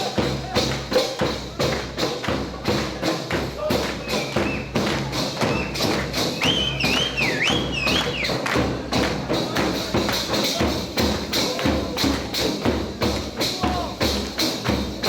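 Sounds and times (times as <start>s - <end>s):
fast drum beat: 0.0s - 15.0s.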